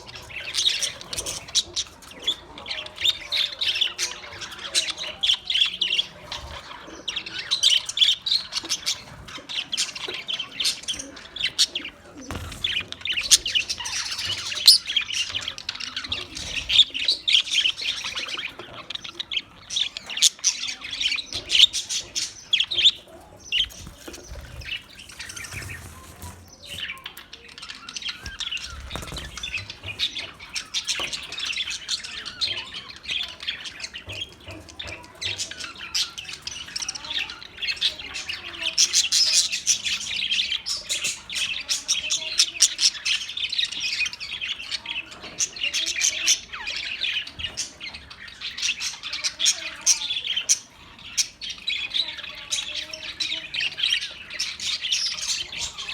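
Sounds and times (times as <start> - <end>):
parrots chirping and squawking: 0.0 - 55.9.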